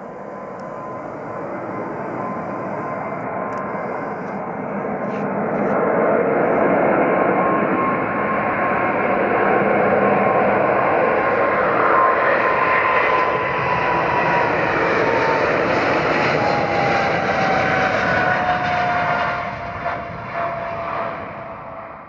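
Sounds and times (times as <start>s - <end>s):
airliner engines passing: 0.0s - 22.0s.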